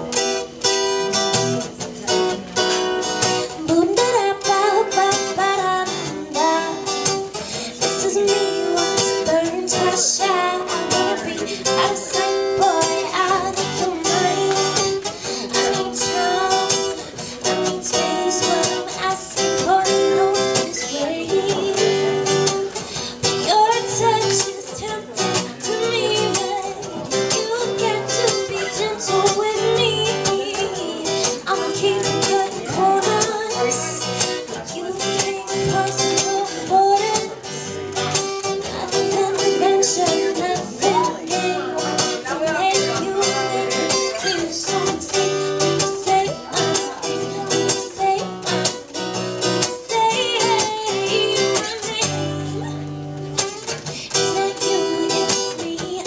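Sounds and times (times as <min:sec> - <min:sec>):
acoustic guitar strumming: 0:00.0 - 0:56.0
woman singing: 0:00.0 - 0:56.0.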